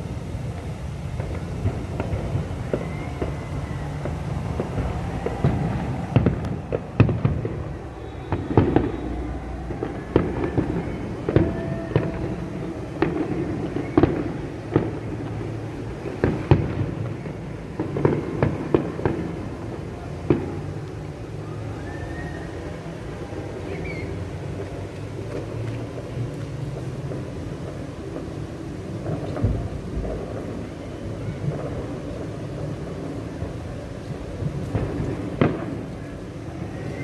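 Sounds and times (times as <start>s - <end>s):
fireworks bangs and booms: 0.0s - 37.0s.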